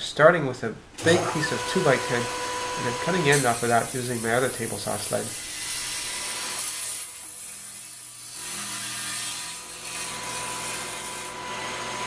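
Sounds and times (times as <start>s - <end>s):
table saw cutting wood: 1.0s - 12.0s.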